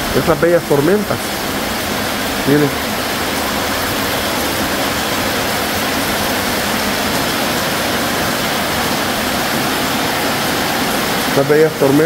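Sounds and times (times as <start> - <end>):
heavy rain on metal roof: 0.0 - 12.0.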